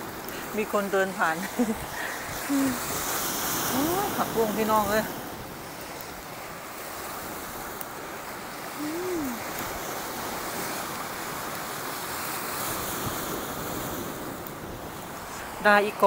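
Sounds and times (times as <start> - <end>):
strong wind: 0.0 - 16.0
surf rushing: 0.0 - 16.0.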